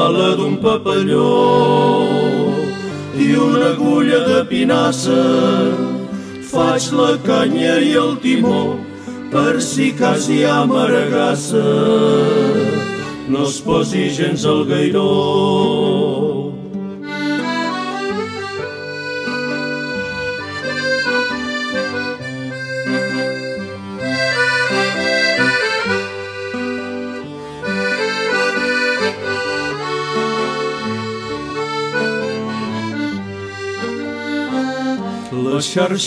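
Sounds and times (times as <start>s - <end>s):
accordion melody: 0.0s - 36.0s.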